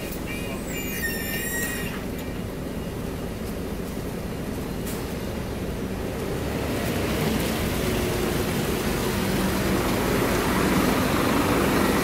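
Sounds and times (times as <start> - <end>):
bus diesel engine running: 0.0 - 12.0
street noise: 0.0 - 12.0.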